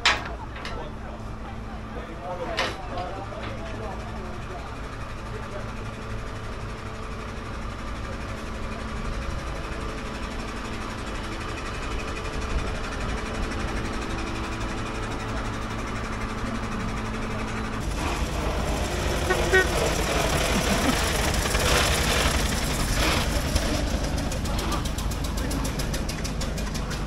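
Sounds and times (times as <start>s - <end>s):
vehicle engine running: 0.3s - 27.0s
old car engine approaching: 3.6s - 27.0s.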